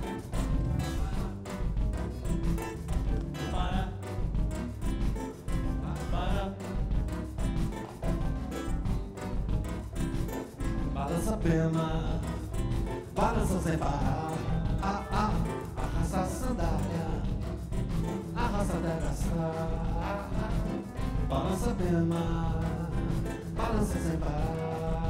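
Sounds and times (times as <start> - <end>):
gliding melodic lead line: 0.0 - 25.0
live band playing: 0.0 - 25.0.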